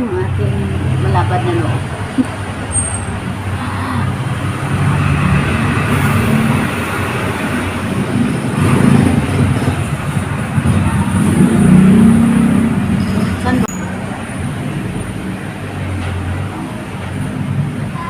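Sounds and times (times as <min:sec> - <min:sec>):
traffic noise: 0:00.0 - 0:18.0
vehicle engine rumbling close by: 0:00.0 - 0:18.0.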